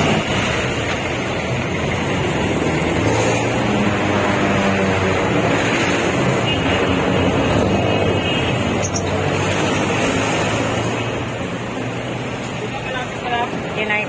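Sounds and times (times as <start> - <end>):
road and traffic noise: 0.0 - 14.0.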